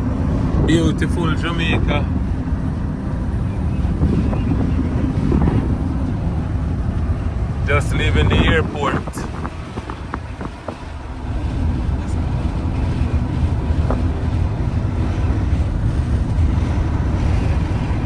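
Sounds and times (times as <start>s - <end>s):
car road and wind noise: 0.0s - 18.0s.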